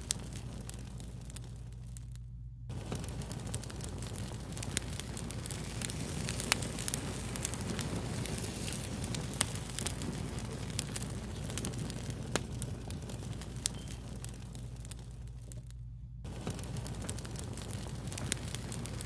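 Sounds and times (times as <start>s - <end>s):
fire crackling and popping: 0.0s - 19.0s
steady low rumble: 0.0s - 19.0s.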